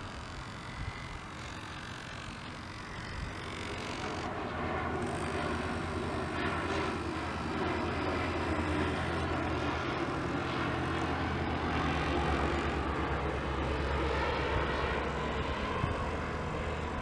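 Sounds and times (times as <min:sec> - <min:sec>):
small boat motor humming: 0:00.0 - 0:17.0.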